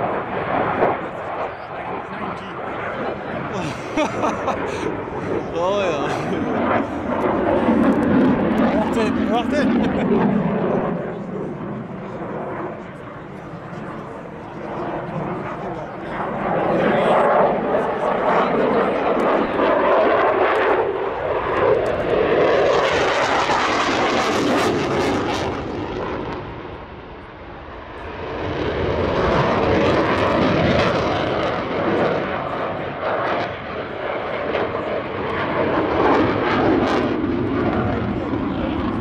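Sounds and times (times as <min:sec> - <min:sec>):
fighter jet engine roaring: 0:00.0 - 0:39.0.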